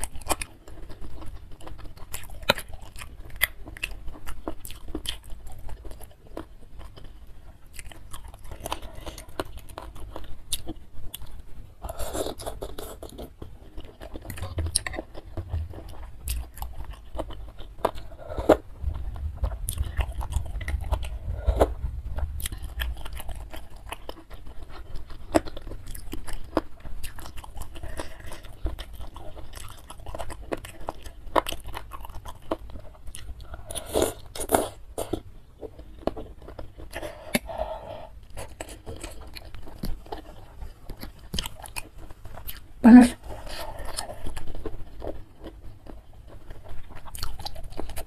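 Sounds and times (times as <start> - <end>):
wet chewing: 0.0 - 48.0.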